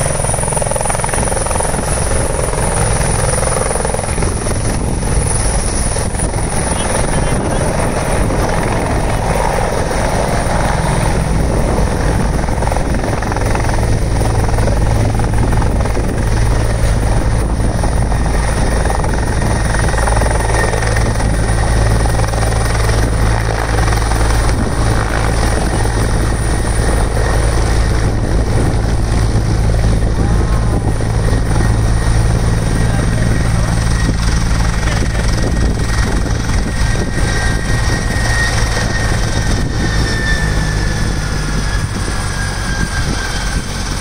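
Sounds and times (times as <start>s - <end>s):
helicopter rotor and engine: 0.0s - 44.0s
high whine: 0.0s - 44.0s.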